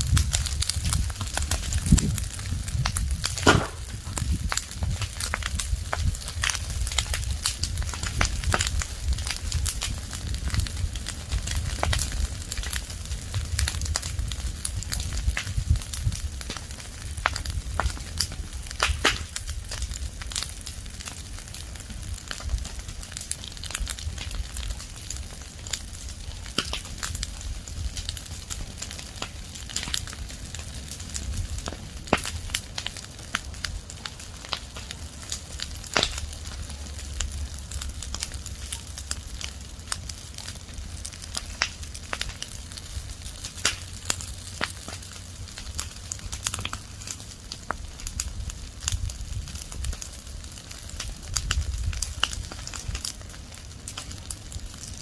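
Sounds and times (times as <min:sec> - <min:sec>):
fire crackling and popping: 0:00.0 - 0:55.0
low rumble of fire: 0:00.0 - 0:55.0.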